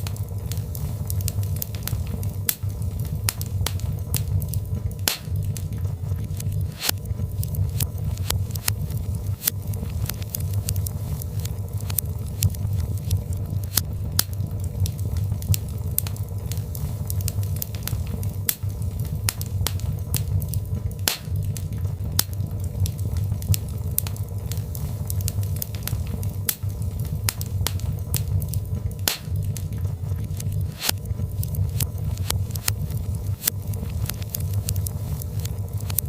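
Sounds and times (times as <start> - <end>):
fire crackling and popping: 0.0 - 36.0
rumble of flame: 0.0 - 36.0.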